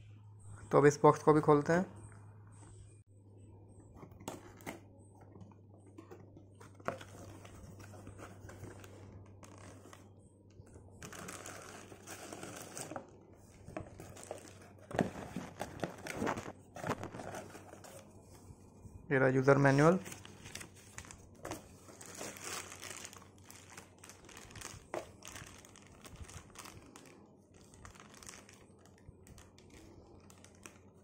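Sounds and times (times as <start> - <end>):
plastic bag and cardboard rustling: 4.0 - 10.2, 10.9 - 18.6, 19.2 - 31.0.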